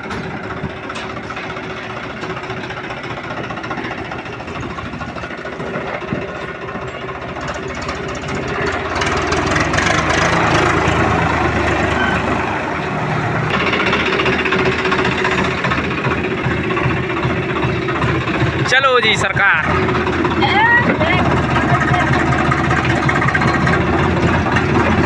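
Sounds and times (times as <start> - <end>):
diesel tractor engine: 0.0 - 25.0.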